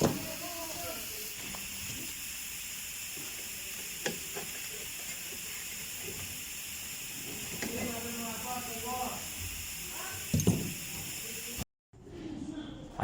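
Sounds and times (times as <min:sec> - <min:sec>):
steady hiss: 0:00.0 - 0:11.6.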